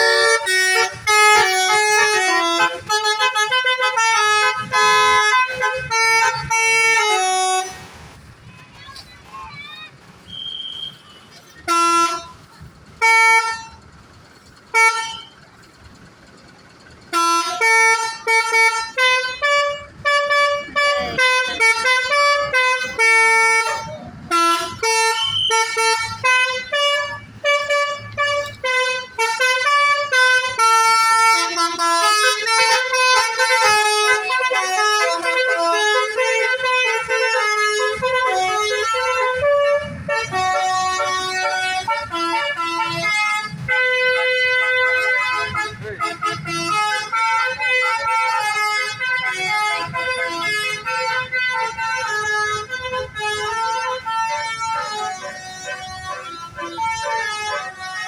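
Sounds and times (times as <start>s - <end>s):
musical bus horn playing a tune: 0.0s - 8.6s, 10.2s - 58.0s.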